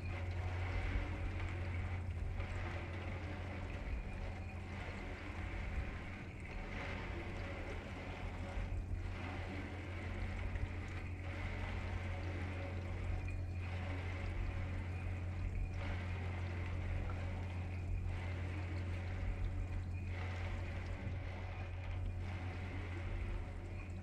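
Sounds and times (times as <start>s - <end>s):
steady low hum: 0.0s - 24.0s
washing machine churning water: 0.0s - 24.0s.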